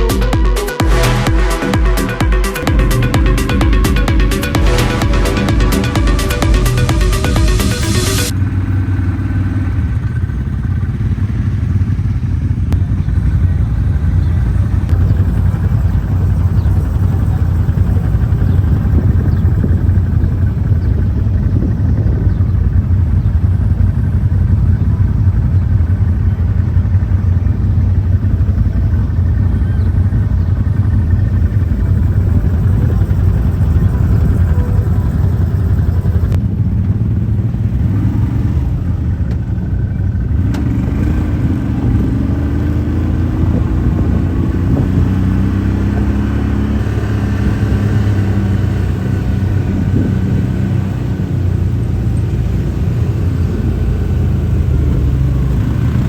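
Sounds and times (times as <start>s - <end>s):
off-road vehicle engine rumbling: 0.0s - 56.0s.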